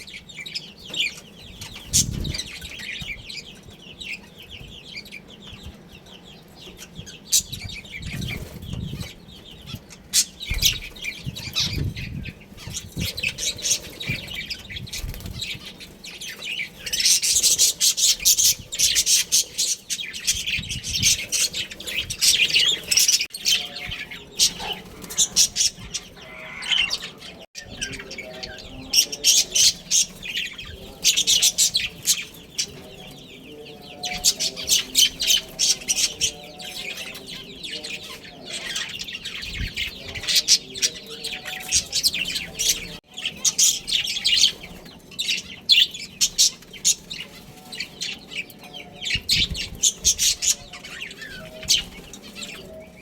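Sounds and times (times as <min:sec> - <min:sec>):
budgerigars chattering: 0:00.0 - 0:53.0.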